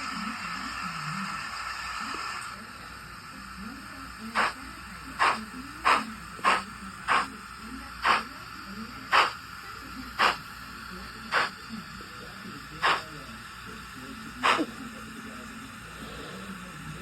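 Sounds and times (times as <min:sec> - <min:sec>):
model steam locomotive chuffs: 0:00.0 - 0:17.0.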